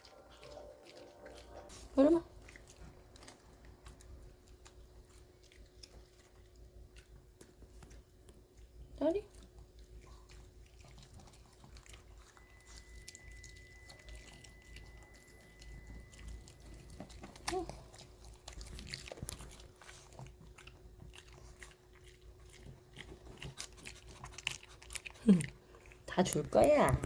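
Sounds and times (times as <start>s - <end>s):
dog chewing cucumber: 0.0s - 27.0s.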